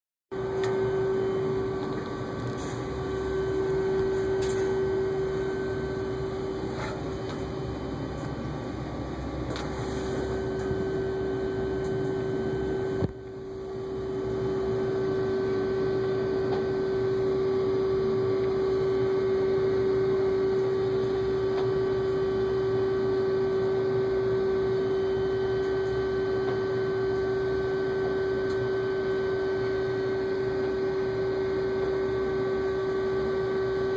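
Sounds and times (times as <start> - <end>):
machine hum: 0.3 - 33.9.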